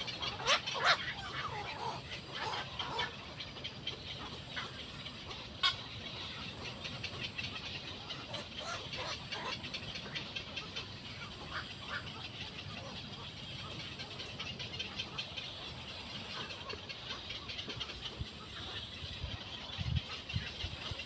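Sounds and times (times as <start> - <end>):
high outdoor hiss: 0.0 - 21.0.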